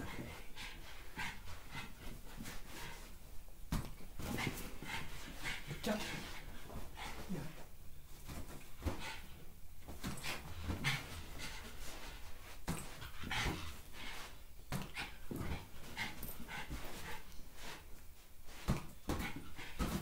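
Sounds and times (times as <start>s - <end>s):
small dog panting: 0.0s - 3.2s, 4.2s - 7.7s, 10.0s - 20.0s.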